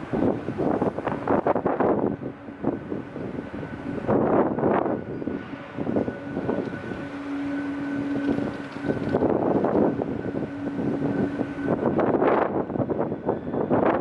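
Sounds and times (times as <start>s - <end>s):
jet engines humming: 0.0s - 14.0s
wind buffeting microphone: 0.0s - 14.0s.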